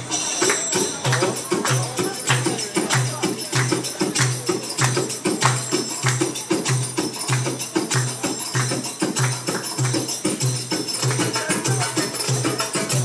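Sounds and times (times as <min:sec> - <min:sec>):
fast hand-drum rhythm: 0:00.0 - 0:13.0
tambourine jingles: 0:00.0 - 0:13.0.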